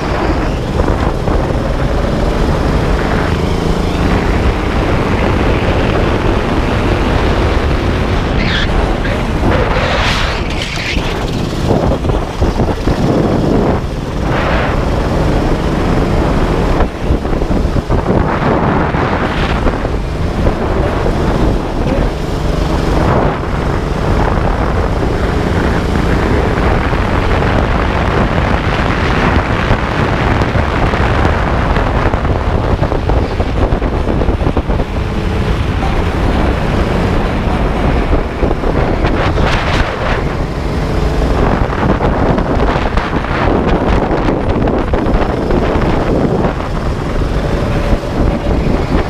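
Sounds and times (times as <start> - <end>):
go-kart engine racing: 0.0 - 49.0
wind buffeting microphone: 0.0 - 49.0.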